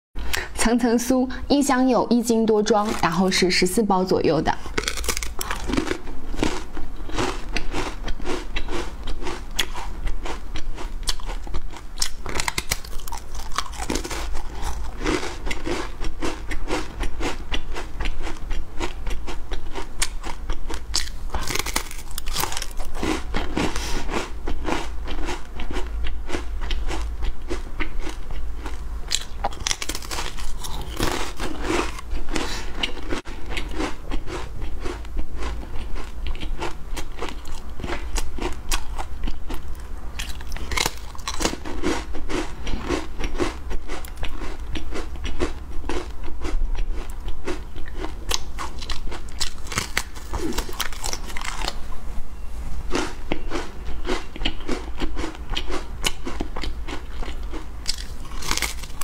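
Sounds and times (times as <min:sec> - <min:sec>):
crackers crunching: 0:04.6 - 0:46.1, 0:46.8 - 0:51.8, 0:52.9 - 0:59.0.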